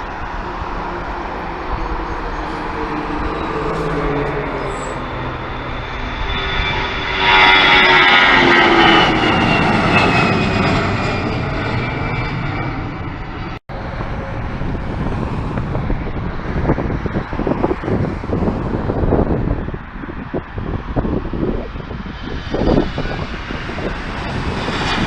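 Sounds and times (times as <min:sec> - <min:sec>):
airliner engines passing: 0:00.0 - 0:25.0.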